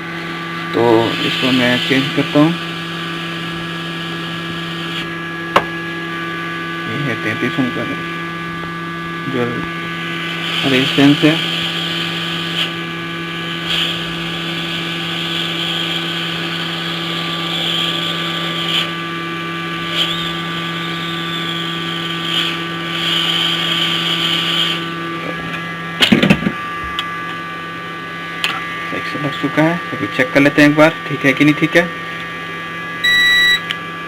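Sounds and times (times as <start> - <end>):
hot-air rework station hum and hiss: 0.0 - 34.0.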